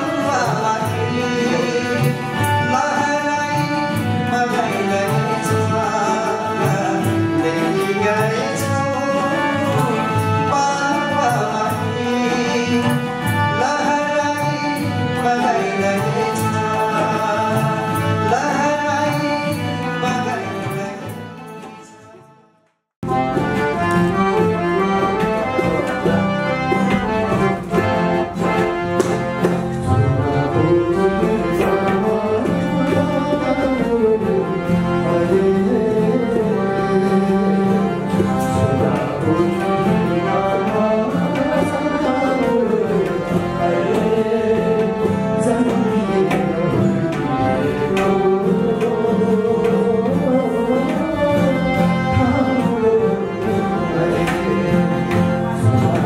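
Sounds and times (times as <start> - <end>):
tabla beat: 0.0 - 22.3, 23.0 - 56.0
man singing: 0.0 - 22.4, 24.2 - 56.0
harmonium chords: 0.0 - 56.0.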